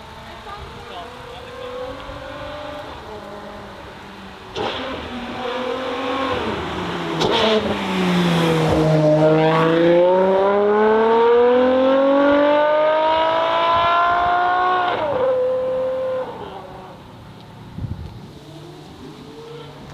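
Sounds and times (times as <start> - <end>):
car engine accelerating past: 0.2 - 17.3.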